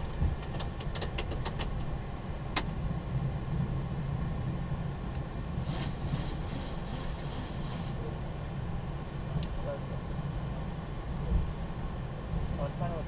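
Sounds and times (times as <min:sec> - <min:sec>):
airliner low rumble: 0:00.0 - 0:13.0.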